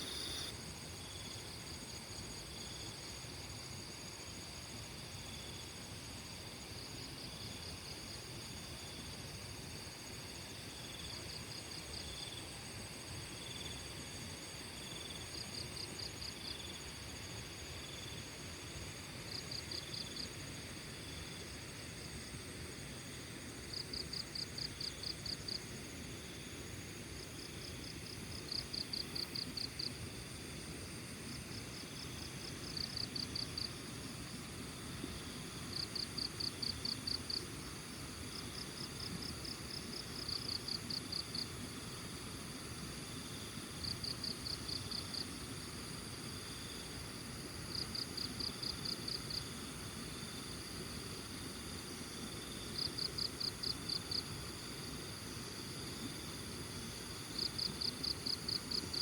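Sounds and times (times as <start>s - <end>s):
crickets chirping: 0.0s - 59.0s
high insect trill: 0.0s - 59.0s.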